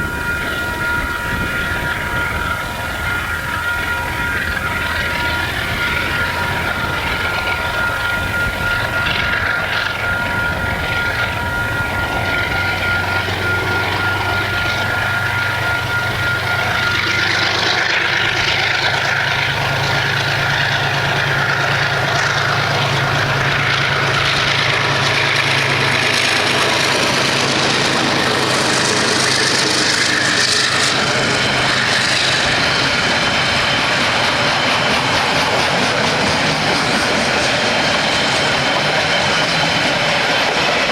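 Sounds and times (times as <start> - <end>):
thin high whine: 0.0 - 40.8
diesel locomotive engine drone: 0.0 - 40.9.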